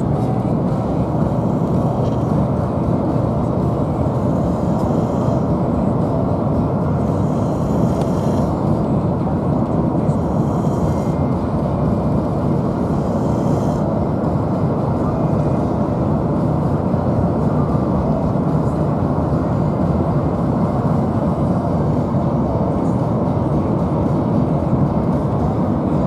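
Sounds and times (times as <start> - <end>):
vehicle road and engine rumble: 0.0 - 26.0.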